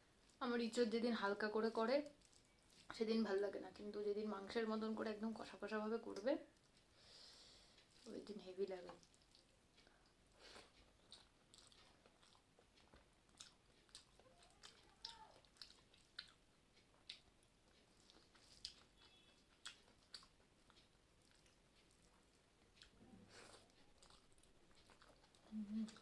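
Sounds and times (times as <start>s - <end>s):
faint close-up chewing: 1.9s - 5.2s, 6.0s - 7.0s, 7.6s - 26.0s.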